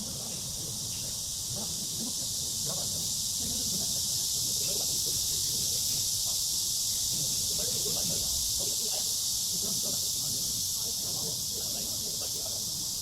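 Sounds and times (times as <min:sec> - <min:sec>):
faint distant voices: 0:00.0 - 0:13.0
high-pitched insect chorus: 0:00.0 - 0:13.0.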